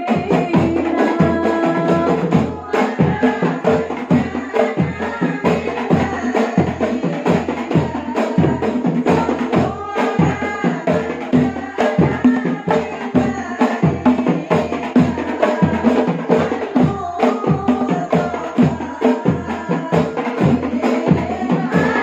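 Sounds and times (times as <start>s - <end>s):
frame drums beat: 0.0s - 22.0s
women singing: 0.0s - 22.0s.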